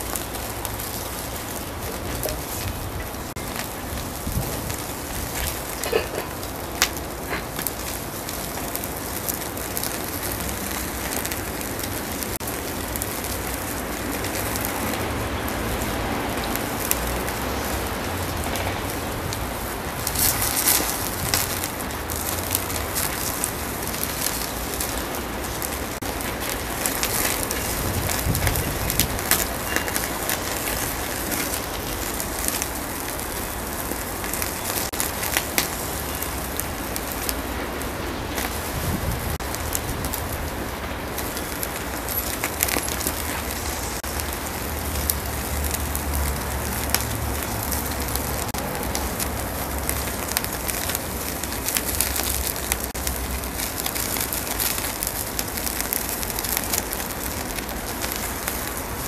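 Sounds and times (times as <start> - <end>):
charcoal fire crackling: 0.0 - 59.0
fat sizzling and popping: 0.0 - 59.0.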